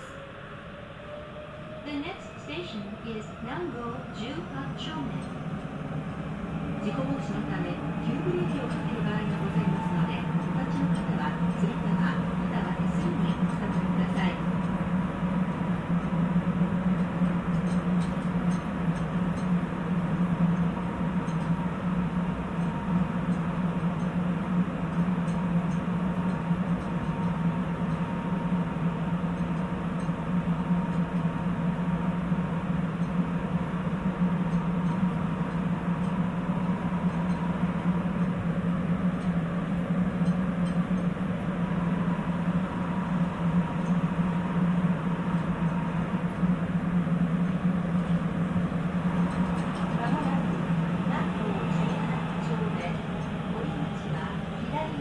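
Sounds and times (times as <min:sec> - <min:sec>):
faint high whine: 0:00.0 - 0:55.0
low hum: 0:00.0 - 0:55.0
subway train rumbling: 0:00.0 - 0:55.0.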